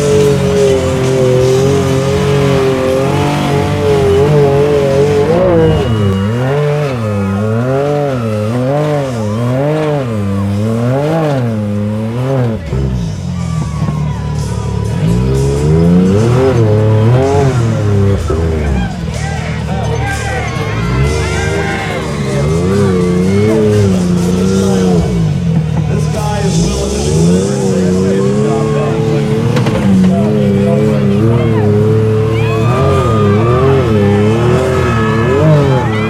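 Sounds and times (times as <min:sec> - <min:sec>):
buggy engine revving: 0:00.0 - 0:36.0.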